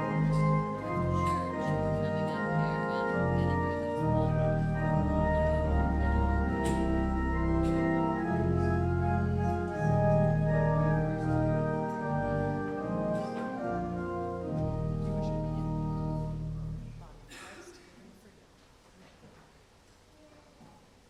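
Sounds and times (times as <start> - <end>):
church organ chords: 0.0 - 17.2.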